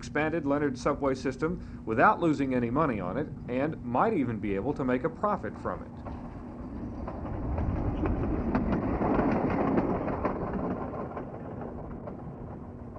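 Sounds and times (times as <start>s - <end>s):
subway car rolling on track: 0.0s - 12.9s
wheels clicking over rail joints: 0.0s - 12.9s.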